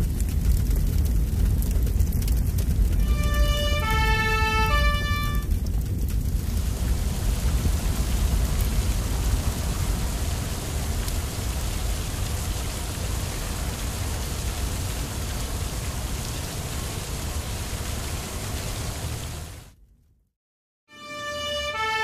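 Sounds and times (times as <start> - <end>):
water spraying from fire hose: 0.0 - 19.8.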